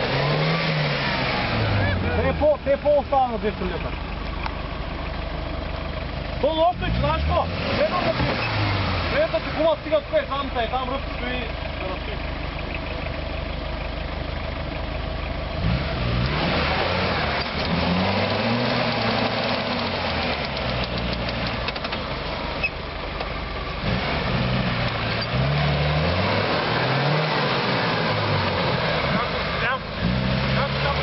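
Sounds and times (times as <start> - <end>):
engine revving: 0.0 - 4.4, 5.4 - 12.2, 15.4 - 31.0.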